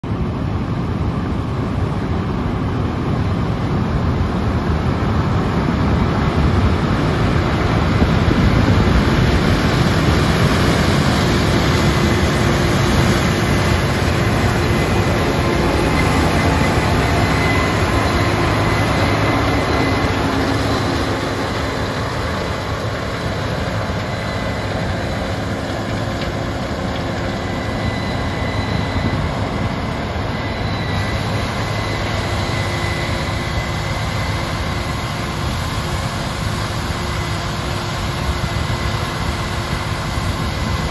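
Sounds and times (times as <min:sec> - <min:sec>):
combine harvester engine drone: 0:00.0 - 0:40.9
thin steady whine: 0:00.1 - 0:40.9.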